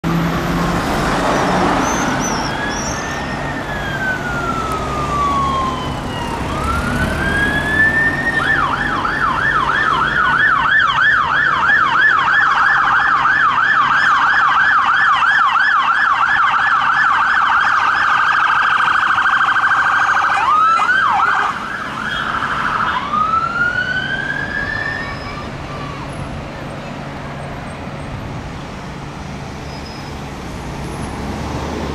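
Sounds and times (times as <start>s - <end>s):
diesel truck engine hum: 0.0s - 31.9s
fire engine sirens wailing and yelping: 0.0s - 31.9s.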